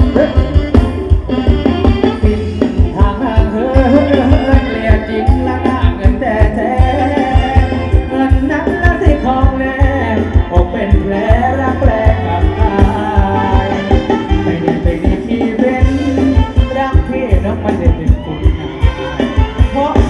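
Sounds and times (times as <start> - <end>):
driving drum beat: 0.0 - 20.0
person singing: 0.0 - 20.0.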